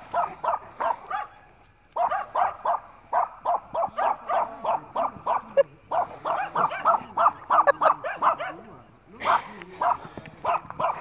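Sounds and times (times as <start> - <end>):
dog barking rapidly: 0.1 - 1.4, 2.0 - 11.0.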